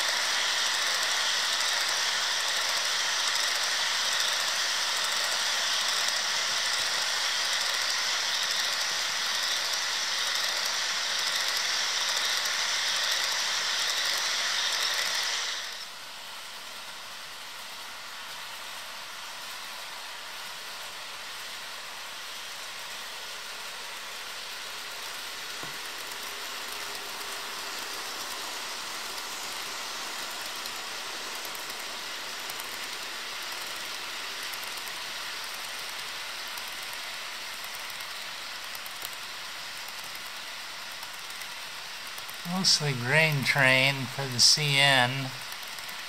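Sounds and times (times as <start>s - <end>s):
model train wheels rushing on rails: 0.0s - 46.0s.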